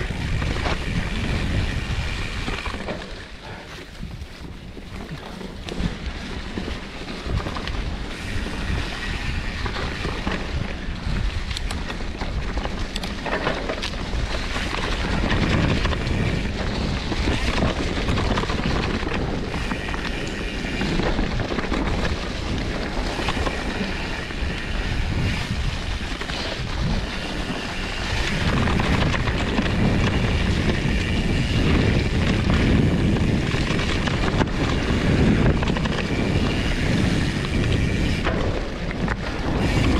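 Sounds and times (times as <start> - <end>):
bike tyres rumbling on trail: 0.0 - 39.9
wind buffeting microphone: 0.0 - 39.9.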